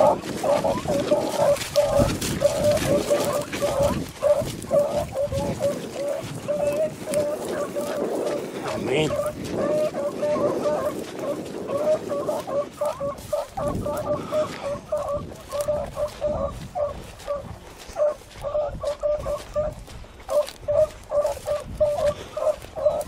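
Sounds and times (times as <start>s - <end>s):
hounds baying: 0.0s - 23.0s.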